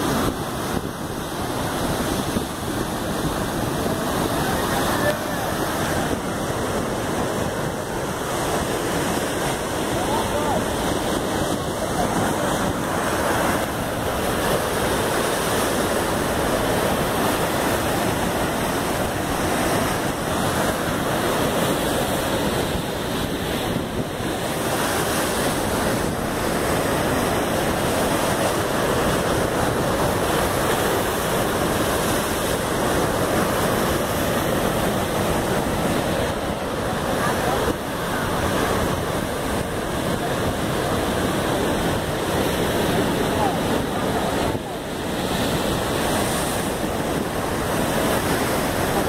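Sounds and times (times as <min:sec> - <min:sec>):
ocean surf breaking on rocks: 0:00.0 - 0:49.0
wind on microphone: 0:00.0 - 0:49.0.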